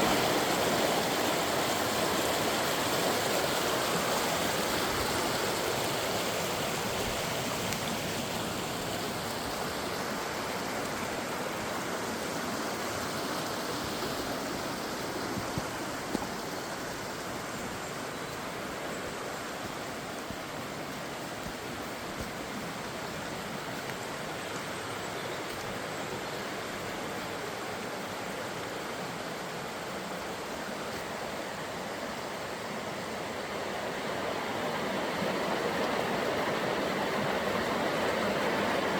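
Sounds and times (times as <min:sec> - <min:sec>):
rushing stream water: 0:00.0 - 0:38.9.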